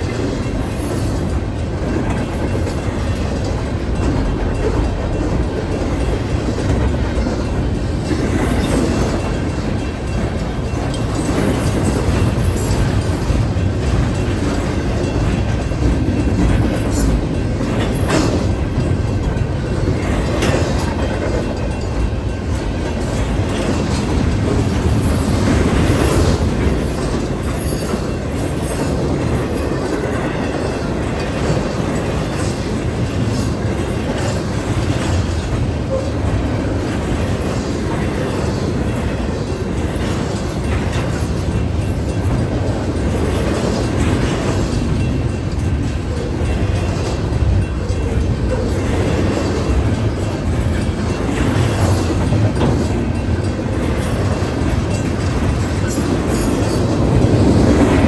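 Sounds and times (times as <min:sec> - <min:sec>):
freight train wheels rumbling: 0:00.0 - 0:58.0
wheels clacking over rail joints: 0:00.0 - 0:58.0.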